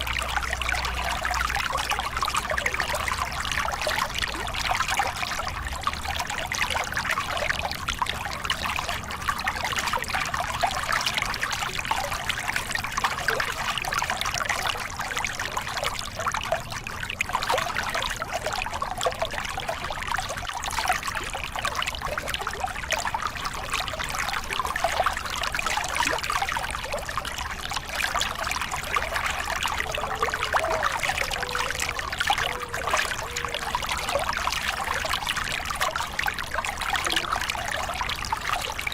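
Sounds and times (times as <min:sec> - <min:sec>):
water pouring and splashing: 0:00.0 - 0:38.9.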